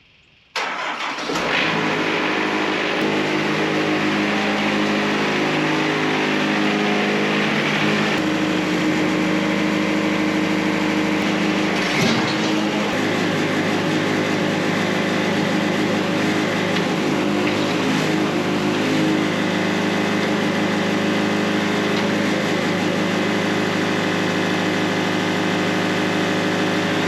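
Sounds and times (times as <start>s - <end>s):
sawmill engine running: 0.6s - 27.0s.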